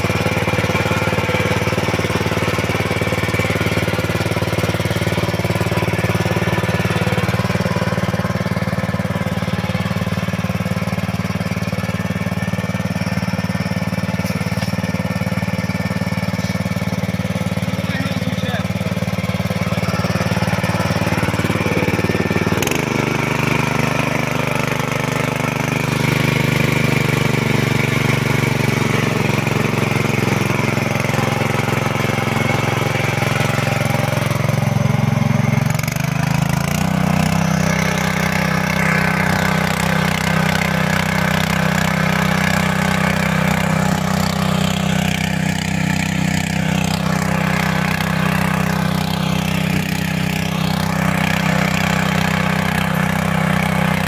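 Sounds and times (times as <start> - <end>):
petrol generator engine running: 0.0 - 54.0.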